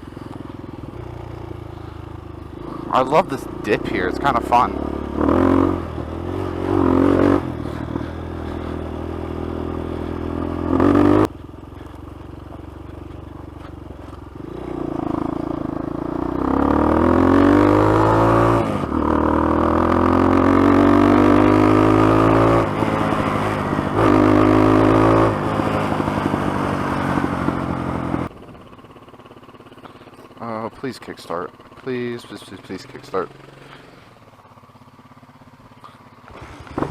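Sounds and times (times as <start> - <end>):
dirt bike engine revving: 0.0 - 28.3, 31.3 - 34.2, 35.8 - 36.9.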